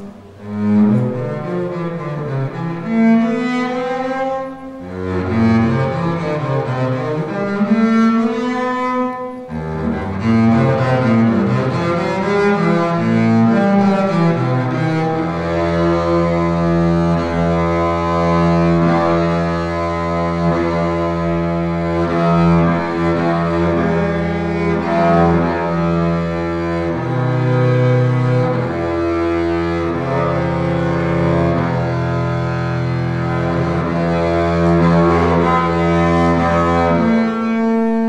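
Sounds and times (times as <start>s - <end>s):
bowed double bass: 0.0s - 38.0s.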